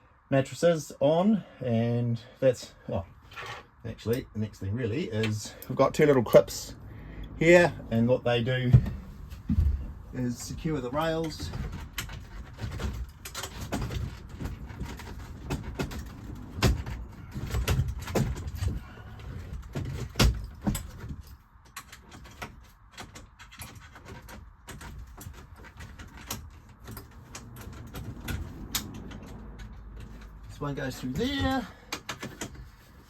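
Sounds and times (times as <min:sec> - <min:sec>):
metal rails clicking and rattling: 0:05.1 - 0:33.0.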